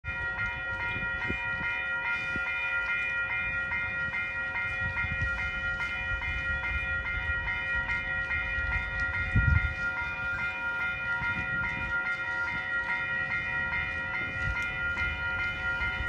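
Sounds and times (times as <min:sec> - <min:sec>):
bell ringing: 0:00.0 - 0:16.0
train rumbling: 0:00.1 - 0:16.0.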